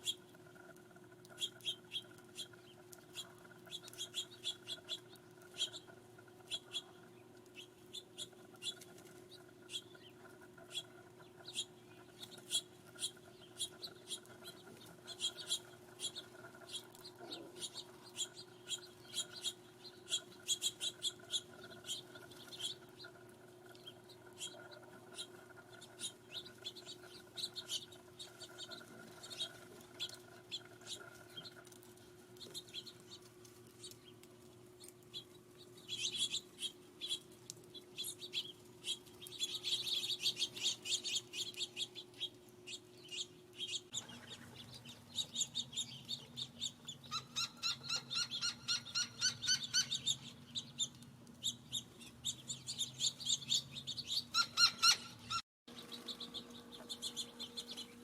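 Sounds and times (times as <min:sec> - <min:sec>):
faint steady hum: 0:00.0 - 0:58.0
small birds chirping: 0:00.0 - 0:58.0.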